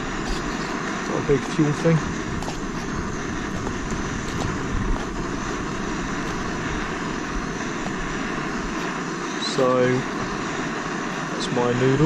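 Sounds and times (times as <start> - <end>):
gas stove burner hissing: 0.0 - 12.0.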